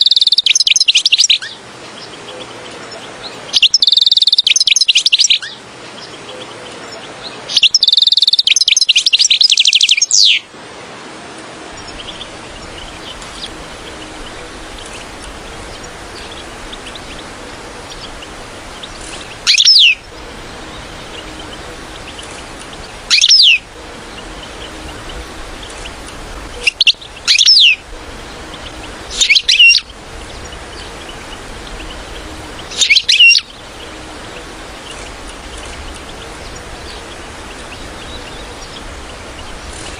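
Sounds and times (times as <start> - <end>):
bird down-sweeping calls: 0.0 - 10.5, 11.5 - 39.9
bird twittering song: 0.0 - 10.5, 11.7 - 39.9
background hiss: 0.0 - 39.9.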